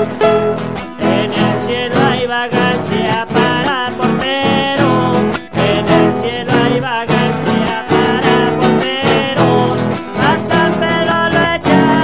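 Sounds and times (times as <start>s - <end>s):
person singing: 0.0s - 12.0s
strummed guitars: 0.0s - 12.0s.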